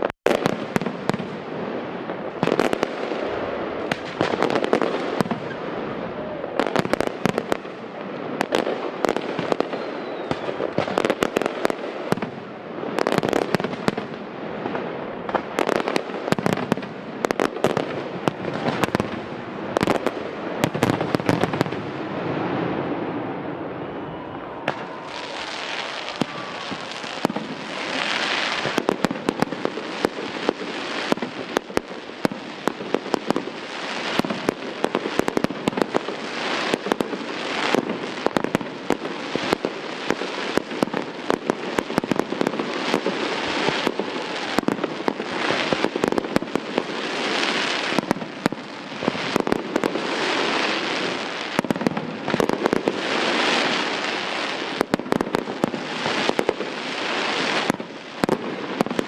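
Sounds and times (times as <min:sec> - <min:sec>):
rushing crackle of rockets: 0:00.0 - 0:23.5, 0:24.4 - 0:59.0
fireworks bangs: 0:00.0 - 0:59.0.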